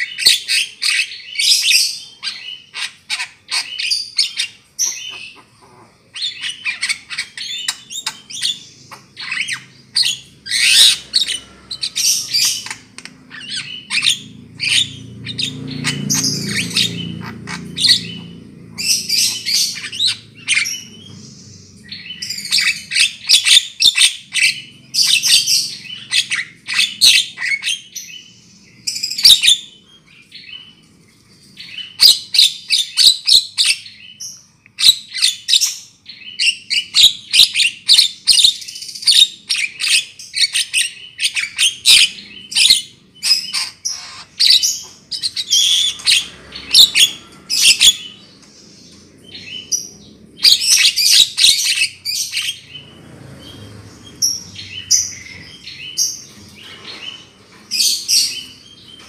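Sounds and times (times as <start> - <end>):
bird chattering calls: 0.0 - 29.8, 36.4 - 59.0.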